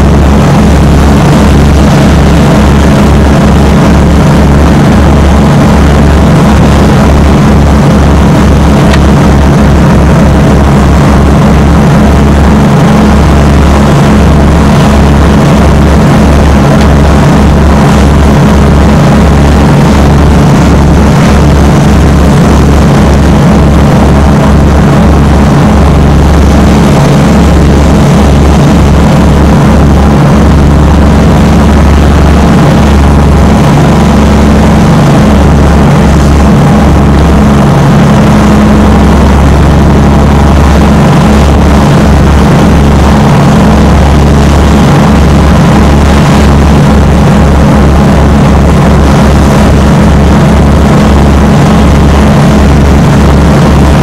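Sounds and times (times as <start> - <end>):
boat engines droning: 0.0 - 54.0.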